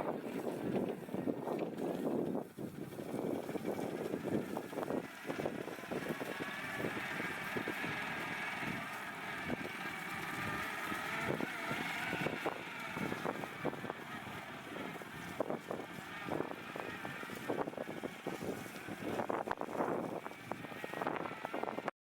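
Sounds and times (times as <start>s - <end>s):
wind buffeting microphone: 0.0s - 21.9s
electric motor whine: 2.9s - 21.9s.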